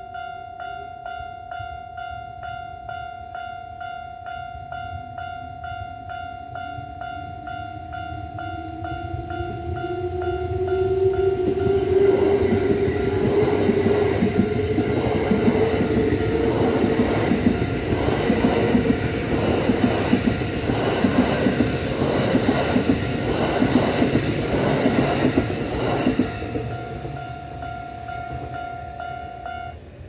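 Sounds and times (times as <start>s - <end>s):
train whine: 3.8s - 30.0s.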